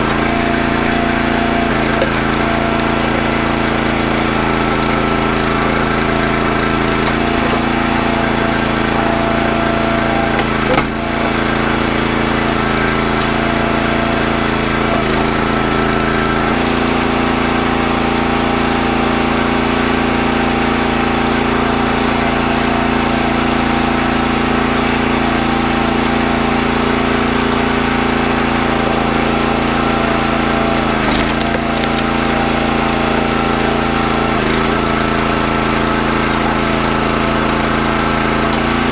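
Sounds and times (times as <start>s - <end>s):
log splitter engine running: 0.0s - 38.9s.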